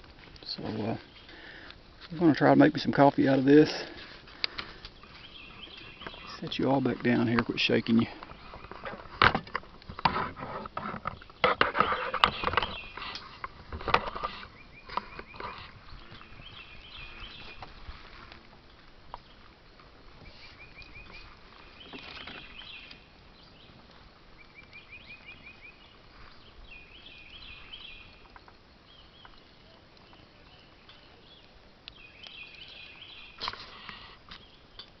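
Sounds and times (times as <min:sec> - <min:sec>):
songbirds singing: 0:00.0 - 0:35.0.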